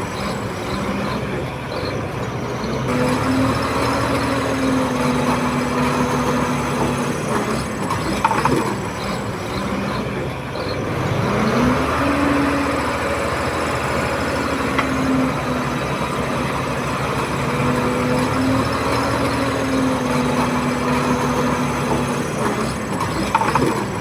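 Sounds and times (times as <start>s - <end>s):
bulldozer diesel engine revving: 0.0s - 24.0s.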